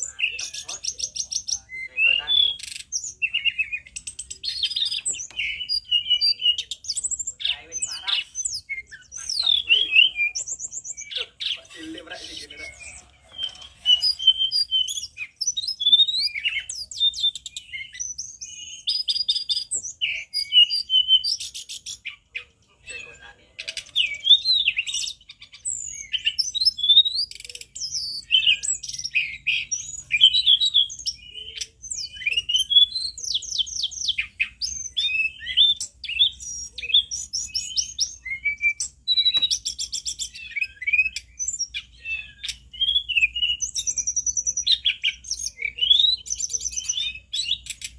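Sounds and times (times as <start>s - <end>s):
bird singing whistled notes: 0.0s - 47.9s.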